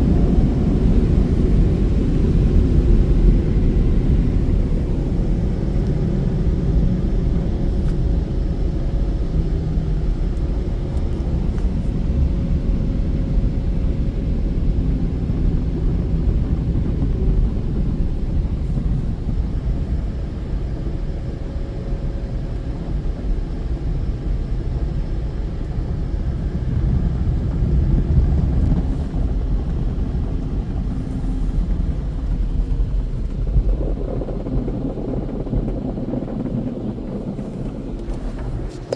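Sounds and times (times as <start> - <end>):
car wash machinery rumbling: 0.0 - 38.9.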